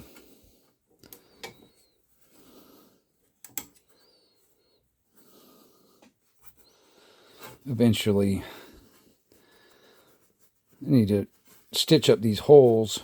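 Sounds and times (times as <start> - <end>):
faint breaths: 0.0 - 11.7.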